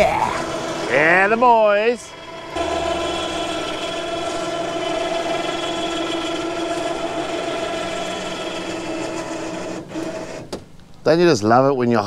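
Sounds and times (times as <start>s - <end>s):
electric winch motor running: 0.0s - 10.6s.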